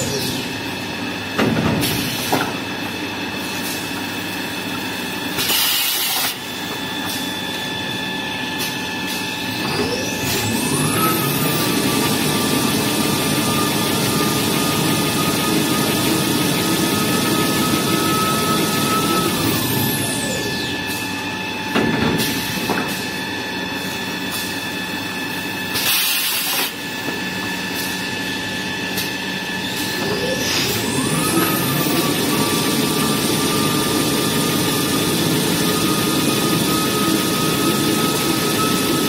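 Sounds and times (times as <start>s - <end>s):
machine drive whine: 0.0s - 39.0s.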